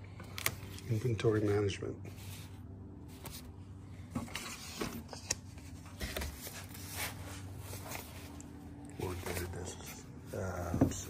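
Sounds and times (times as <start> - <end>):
low steady hum: 0.0 - 11.0
floppy disks in paper sleeves rustling: 0.1 - 11.0.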